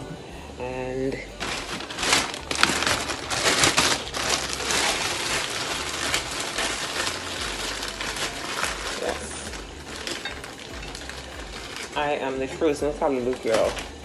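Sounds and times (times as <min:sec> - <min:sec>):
plastic bag crinkling: 0:01.3 - 0:14.0
frozen pieces tumbling into pot: 0:01.4 - 0:14.0.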